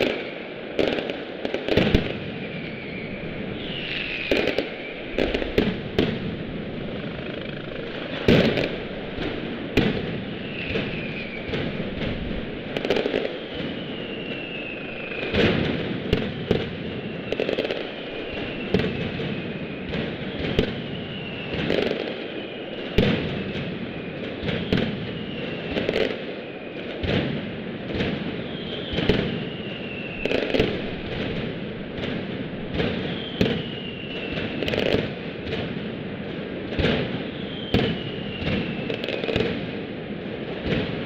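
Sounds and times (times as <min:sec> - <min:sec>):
loud firecracker bangs: 0:00.0 - 0:06.9, 0:07.5 - 0:41.0
falling firework whistles: 0:00.0 - 0:41.0
firecracker crackle: 0:00.0 - 0:41.0.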